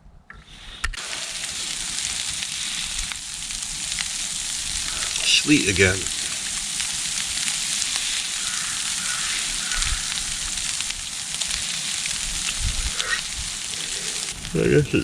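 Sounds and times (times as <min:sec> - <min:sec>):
sleet hissing on fabric tarp: 0:00.4 - 0:15.0.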